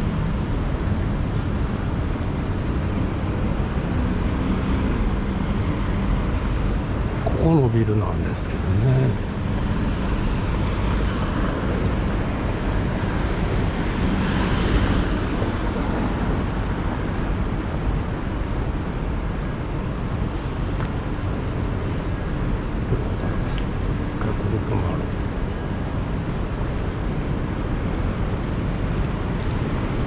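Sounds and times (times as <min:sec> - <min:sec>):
passing traffic: 0:00.0 - 0:30.0.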